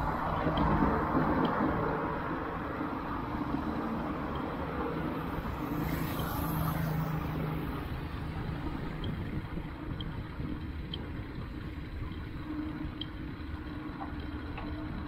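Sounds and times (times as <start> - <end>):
road noise: 0.0 - 15.0
vehicle engines running: 0.0 - 15.0.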